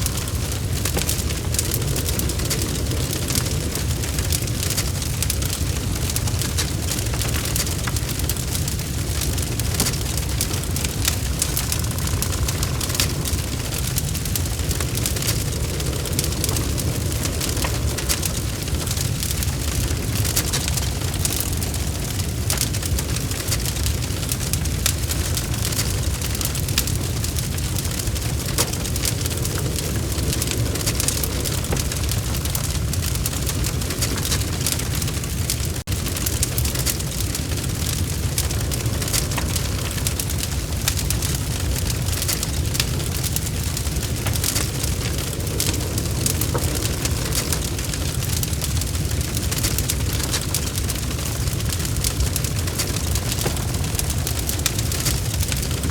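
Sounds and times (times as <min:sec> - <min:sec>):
fire rumbling: 0:00.0 - 0:55.9
logs crackling and popping: 0:00.0 - 0:55.9.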